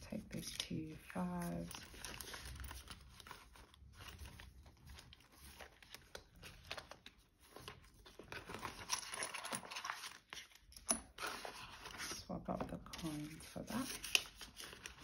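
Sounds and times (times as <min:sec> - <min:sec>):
paper banknotes rustling: 0:00.4 - 0:15.0.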